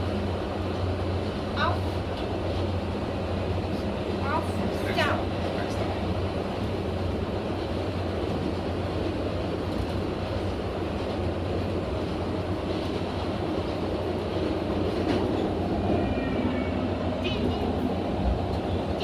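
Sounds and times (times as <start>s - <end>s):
rail car rumbling inside: 0.0s - 19.0s.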